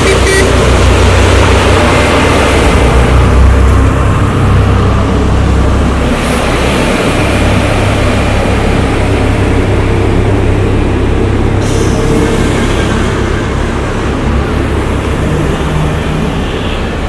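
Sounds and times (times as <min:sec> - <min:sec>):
heavy vehicles rumbling: 0:00.0 - 0:17.0.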